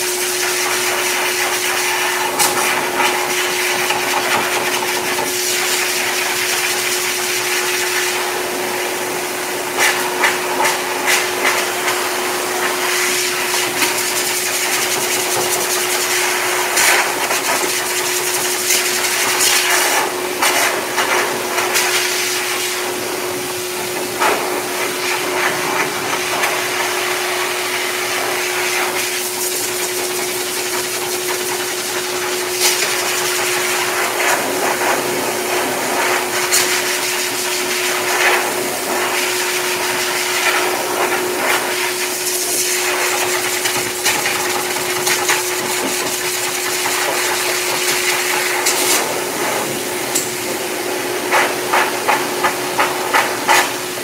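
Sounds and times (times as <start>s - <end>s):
dog dryer motor hum: 0.0s - 54.0s.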